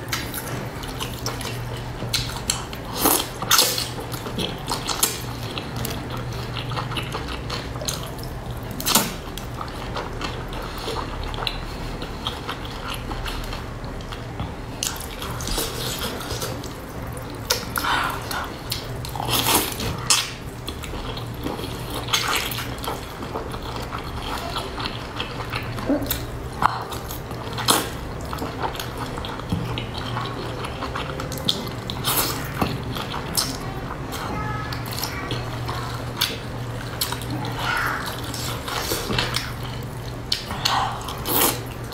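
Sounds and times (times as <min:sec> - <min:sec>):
steady low hum: 0:00.0 - 0:41.9
wet chewing: 0:00.0 - 0:41.9.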